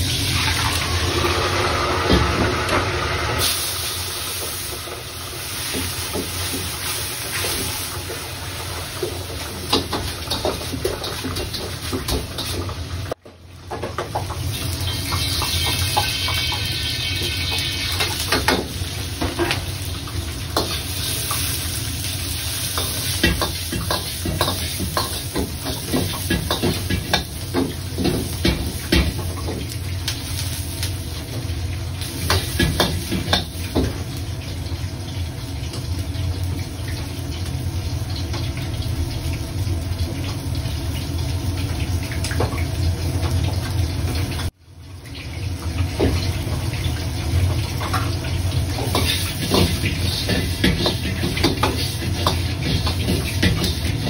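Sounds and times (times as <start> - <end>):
hot oil sizzling: 0.0 - 54.0
low kitchen roar: 0.0 - 54.0.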